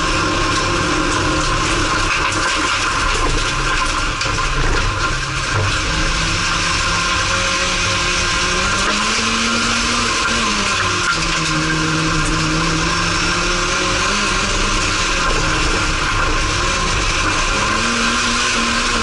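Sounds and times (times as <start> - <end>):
racing car engine: 0.0 - 19.0.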